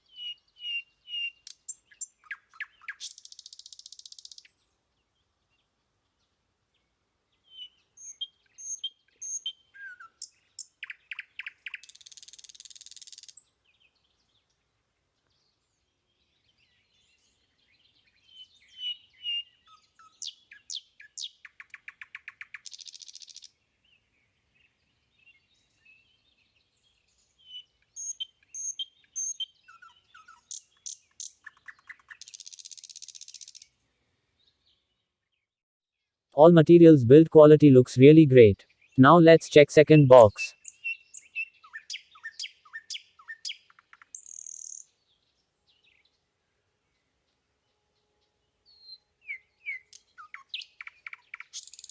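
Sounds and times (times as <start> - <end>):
birdsong with chirps and trills: 0.0 - 35.6, 38.4 - 51.9.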